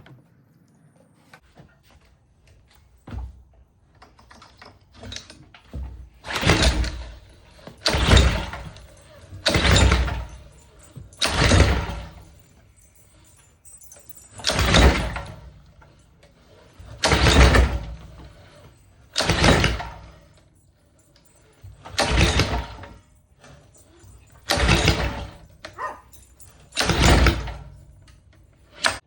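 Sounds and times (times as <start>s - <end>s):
engine cranking by pull-starter: 3.2s - 29.0s.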